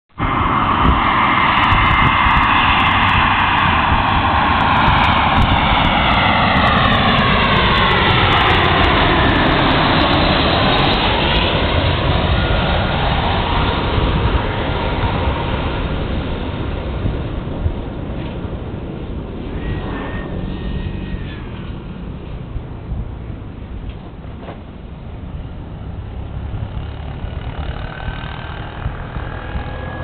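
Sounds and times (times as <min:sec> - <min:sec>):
jet airliner roar overhead: 0:00.1 - 0:30.0
jet engine whine: 0:00.1 - 0:30.0.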